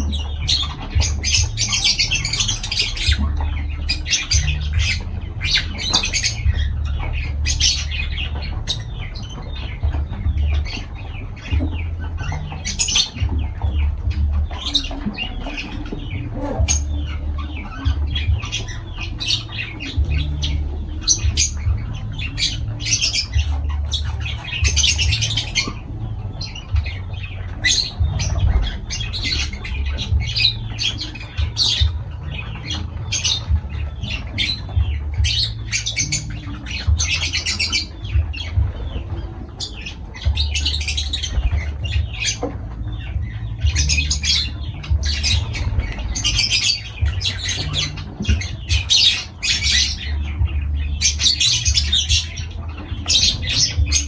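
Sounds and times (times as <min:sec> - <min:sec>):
lovebirds squawking and chattering: 0:00.0 - 0:54.0
low rumble: 0:00.0 - 0:54.0.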